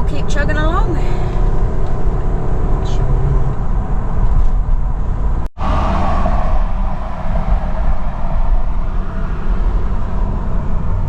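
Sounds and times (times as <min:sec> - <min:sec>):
car road noise and engine rumble: 0:00.0 - 0:11.0.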